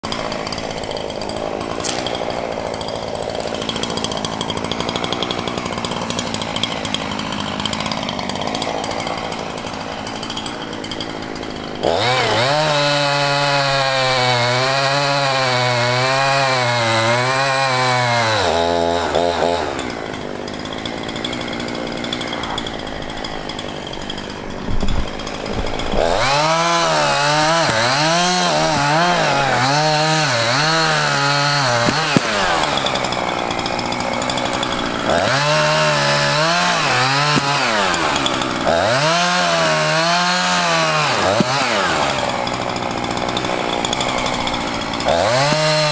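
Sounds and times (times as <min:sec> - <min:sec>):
chainsaw cutting: 0:00.0 - 0:45.9.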